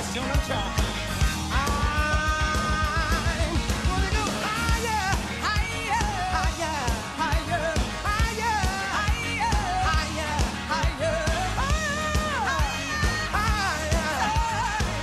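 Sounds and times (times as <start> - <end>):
drum kit beat: 0.0 - 15.0
live band music: 0.0 - 15.0
voices singing: 0.0 - 15.0.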